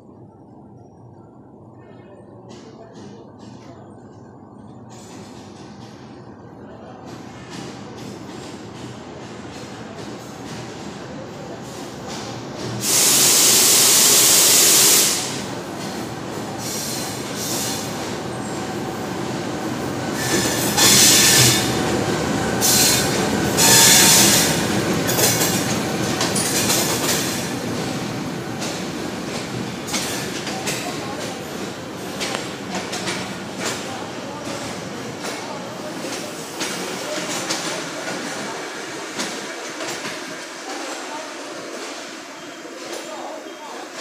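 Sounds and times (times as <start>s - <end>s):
train rumbling and clattering: 0.0s - 44.0s.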